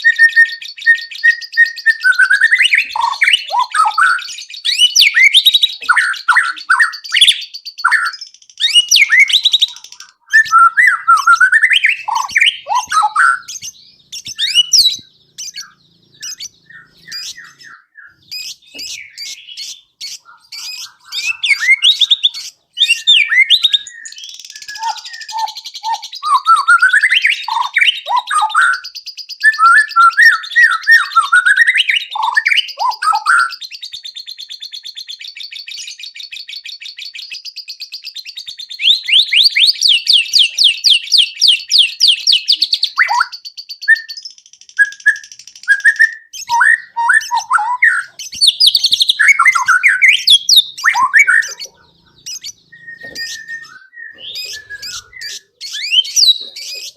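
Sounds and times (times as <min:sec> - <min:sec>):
bird singing whistled song: 0:00.0 - 0:56.9.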